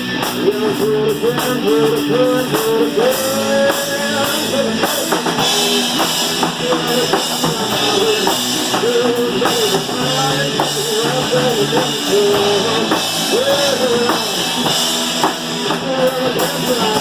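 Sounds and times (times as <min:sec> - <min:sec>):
drum kit: 0:00.0 - 0:17.0
guitars: 0:00.0 - 0:17.0
rock band music: 0:00.0 - 0:17.0.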